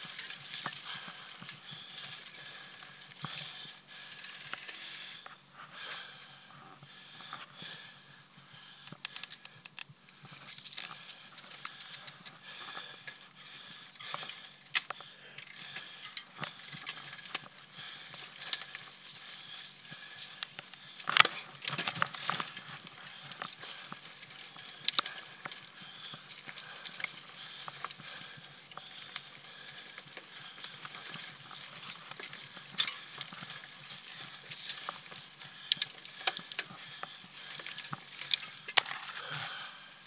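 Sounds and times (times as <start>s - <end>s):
bike rattling over bumps: 0.0s - 5.2s, 10.2s - 39.8s.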